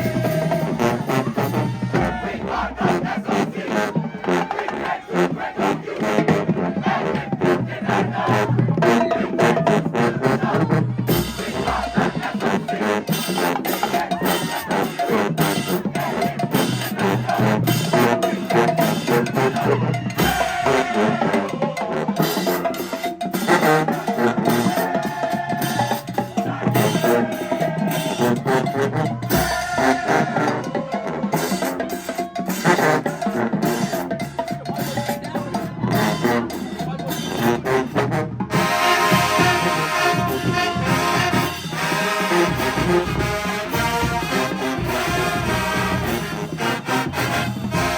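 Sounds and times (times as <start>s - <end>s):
brass carrying the tune: 0.0s - 47.9s
drums and percussion rhythm: 0.0s - 47.9s.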